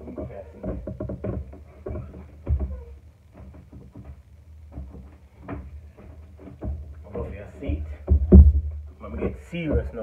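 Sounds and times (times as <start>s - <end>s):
dull thumps and knocks: 0.0s - 10.0s.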